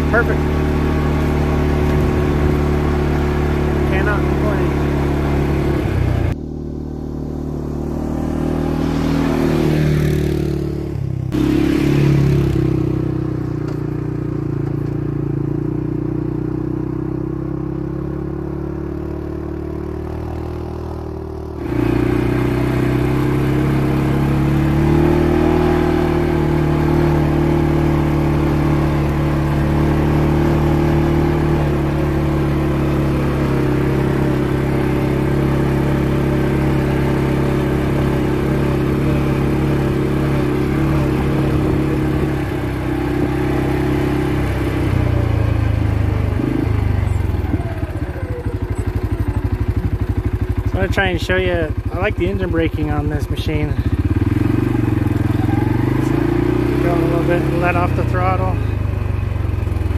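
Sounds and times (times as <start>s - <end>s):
atv engine running: 0.0s - 59.9s
distant engine: 0.0s - 59.9s.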